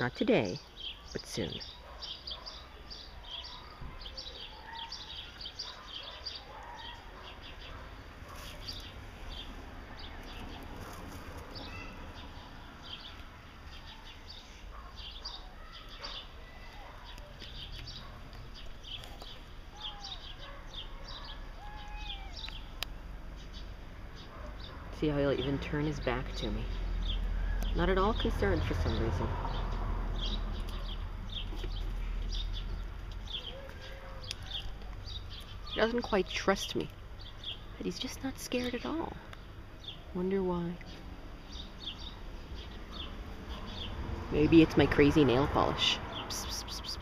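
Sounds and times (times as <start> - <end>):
faint outdoor hum: 0.0 - 47.0
small birds chirping: 0.0 - 47.0.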